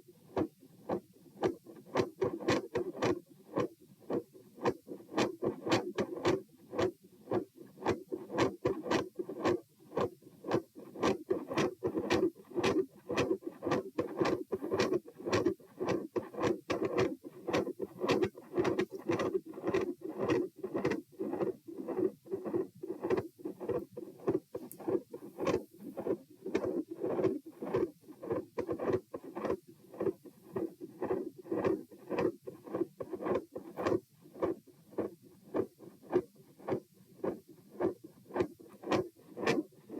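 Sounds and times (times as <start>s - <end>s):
heartbeat: 3.0s - 39.6s.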